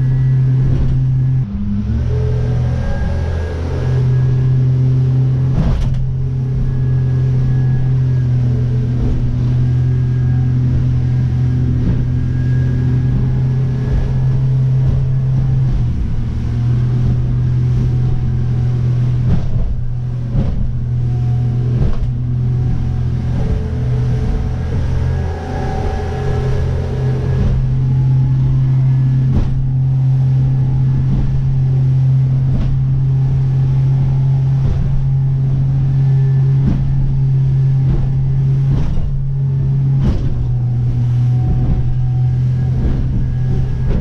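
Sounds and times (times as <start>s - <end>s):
motorboat engine drone: 0.0s - 44.0s.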